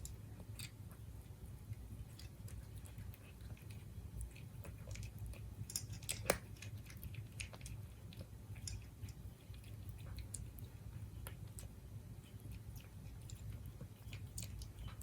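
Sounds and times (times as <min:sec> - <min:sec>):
cat chewing food: 0:00.0 - 0:15.0.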